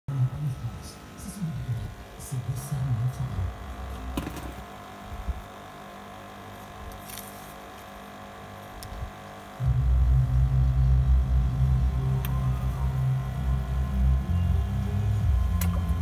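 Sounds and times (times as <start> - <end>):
low electrical hum: 0.1 - 16.0.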